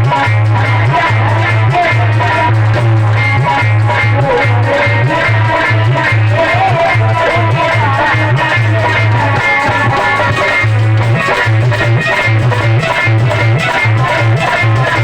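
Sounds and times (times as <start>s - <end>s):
instrumental devotional music: 0.0s - 15.0s.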